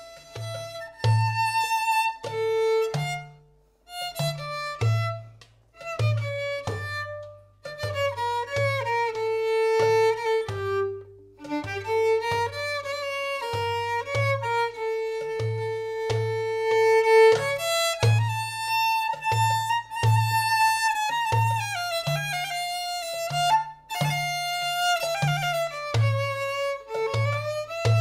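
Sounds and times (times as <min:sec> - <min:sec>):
hand drums beating: 0:00.0 - 0:28.0
violin dance tune: 0:00.0 - 0:28.0.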